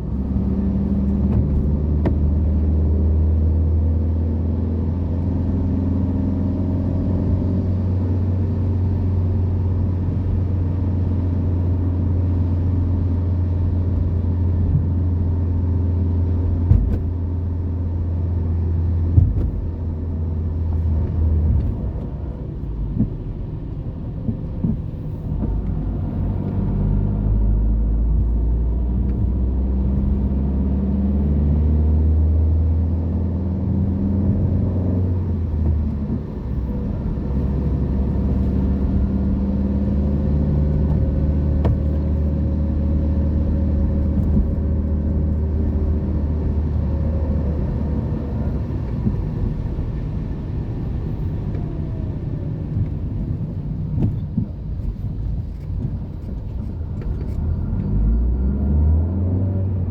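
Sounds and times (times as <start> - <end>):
car engine drone: 0.0 - 59.9
road noise: 0.0 - 59.9.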